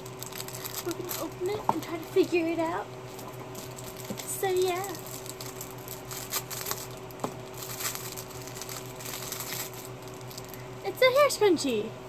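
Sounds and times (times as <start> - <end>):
plastic wrapper crinkling and tearing: 0.0 - 2.3, 2.9 - 10.6.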